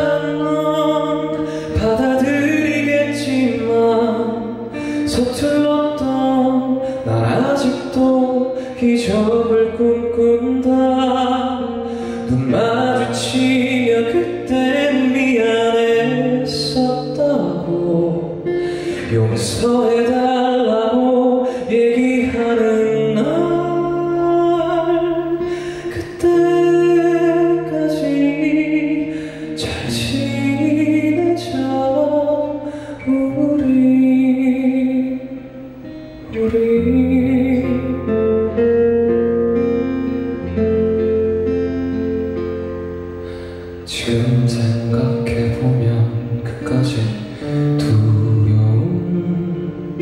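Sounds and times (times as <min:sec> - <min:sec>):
man singing a ballad: 0:00.0 - 0:41.3, 0:43.4 - 0:50.0
guitar: 0:00.0 - 0:50.0.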